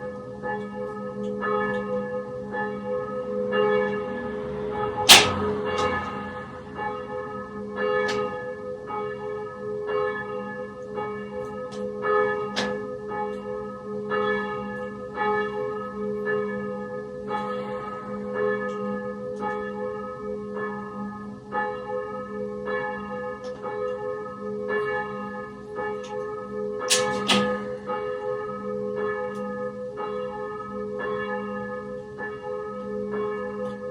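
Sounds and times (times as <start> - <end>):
church bells pealing: 0.0 - 33.9.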